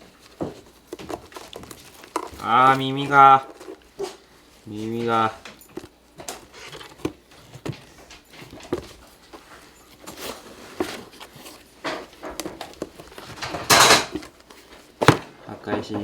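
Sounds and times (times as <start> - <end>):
kittens scratching cardboard box: 0.0 - 15.4.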